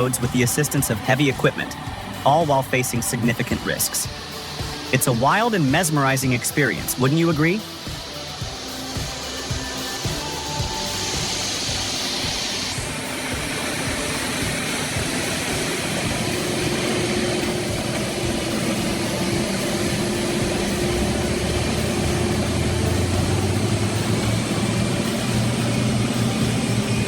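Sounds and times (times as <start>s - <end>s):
heavy engine droning hum: 0.0s - 27.0s.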